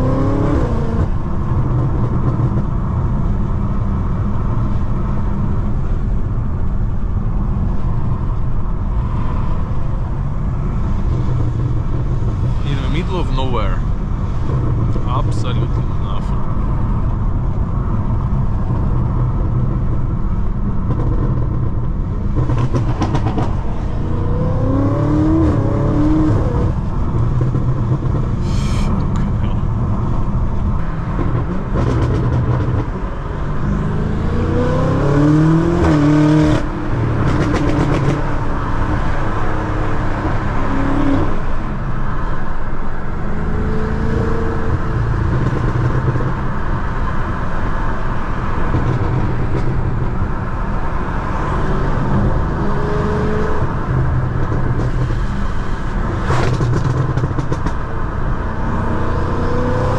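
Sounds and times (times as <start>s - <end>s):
drone of tyres on wet road: 0.0s - 59.9s
car engine accelerating hard: 10.8s - 59.9s.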